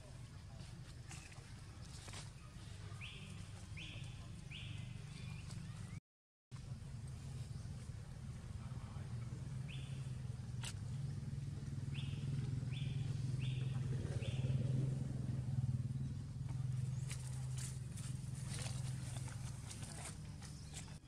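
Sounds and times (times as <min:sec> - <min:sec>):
low engine hum: 0:00.0 - 0:06.0, 0:06.6 - 0:21.0.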